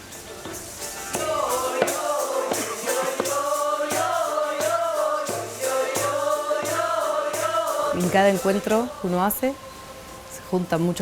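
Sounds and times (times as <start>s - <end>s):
steady drum beat: 0.0s - 11.0s
voices singing slow chant: 0.0s - 11.0s.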